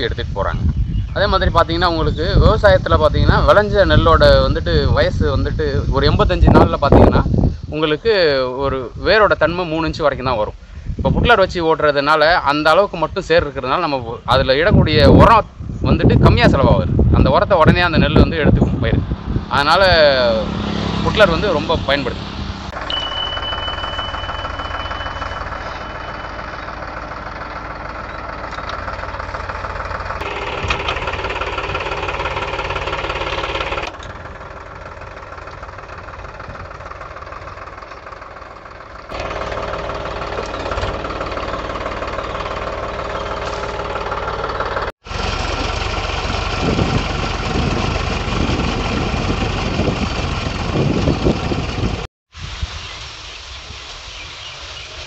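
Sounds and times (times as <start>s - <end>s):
tractor diesel engine running: 0.0s - 52.1s.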